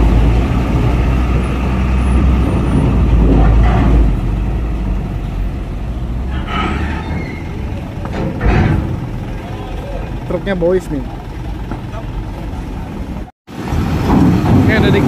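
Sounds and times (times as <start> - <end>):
truck engine passing by: 0.0 - 15.0.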